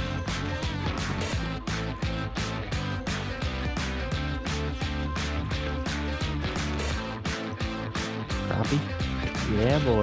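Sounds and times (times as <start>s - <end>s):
background music with guitar: 0.0s - 10.0s.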